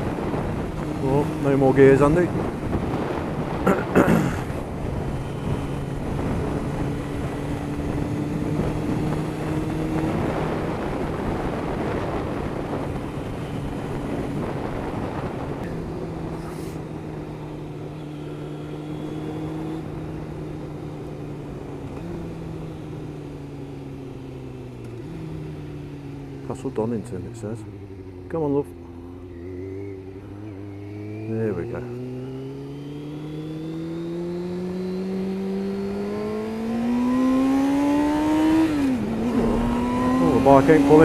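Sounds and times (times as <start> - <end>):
motorcycle engine running: 0.0 - 41.0
wind and road noise: 0.0 - 41.0.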